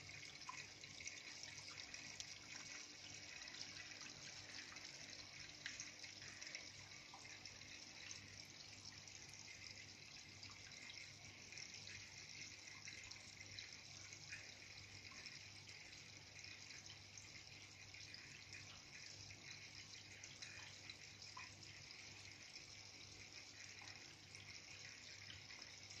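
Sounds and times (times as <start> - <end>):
low steady hum: 0.0 - 26.0
water trickling: 0.0 - 26.0.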